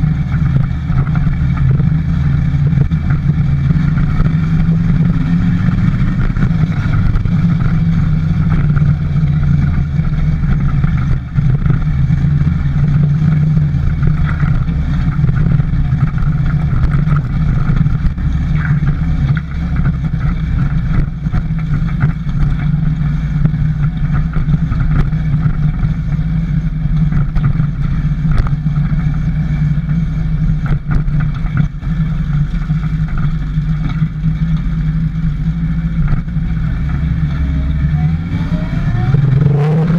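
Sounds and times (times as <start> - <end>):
small motorbike engine running: 0.0 - 39.9.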